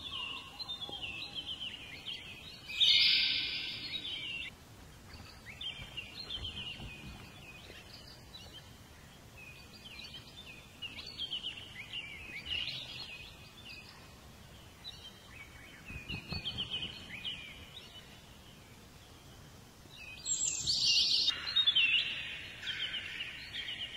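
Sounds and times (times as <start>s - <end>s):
birds chirping: 0.0s - 23.9s
faint background hiss: 0.0s - 23.9s.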